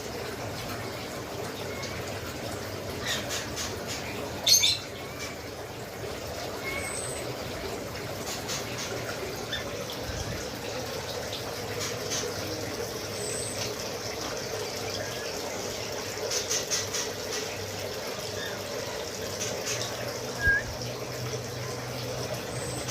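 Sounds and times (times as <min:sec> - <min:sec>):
running water: 0:00.0 - 0:22.9.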